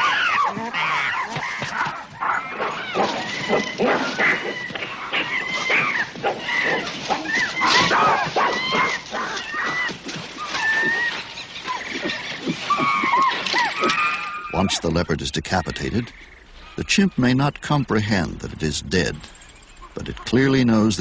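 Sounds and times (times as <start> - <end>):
chimpanzees screaming and barking: 0.0 - 17.1.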